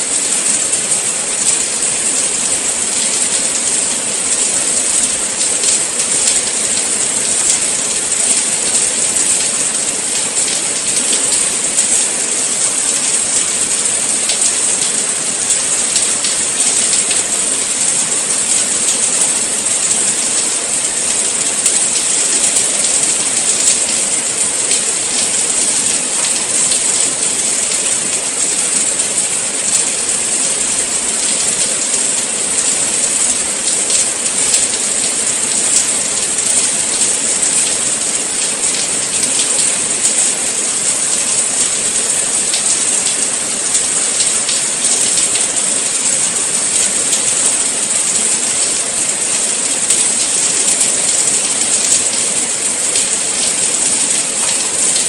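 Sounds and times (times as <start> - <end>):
patter of raindrops: 0.0 - 55.0
steady rain hissing: 0.0 - 55.0.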